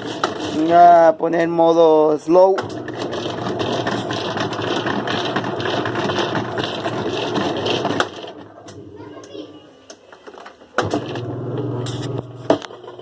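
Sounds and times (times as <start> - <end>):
washing machine spin rattling whir: 0.0 - 8.9, 10.8 - 13.0.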